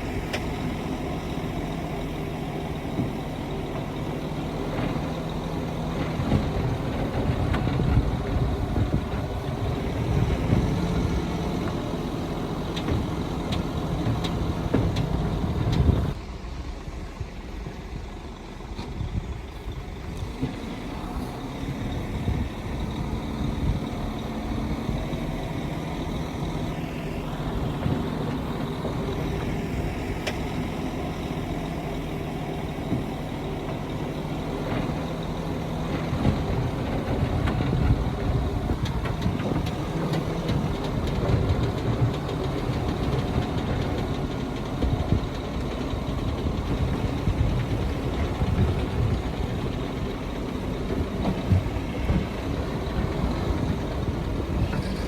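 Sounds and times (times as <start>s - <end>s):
heavy diesel engines running: 0.0s - 55.0s
low machinery rumbles: 0.0s - 55.0s.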